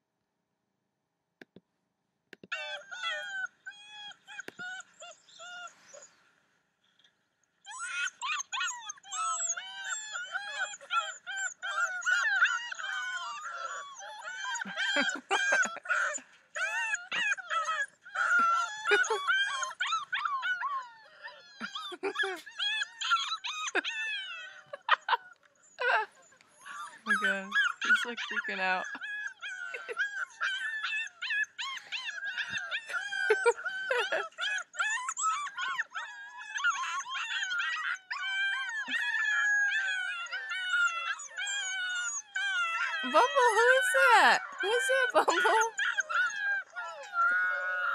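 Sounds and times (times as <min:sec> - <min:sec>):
puppies howling and whimpering: 0:02.5 - 0:06.2, 0:07.6 - 0:47.9.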